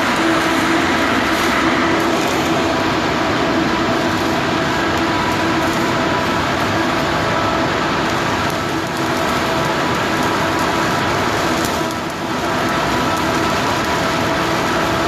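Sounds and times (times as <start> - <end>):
electric arc welding: 0.0 - 15.0.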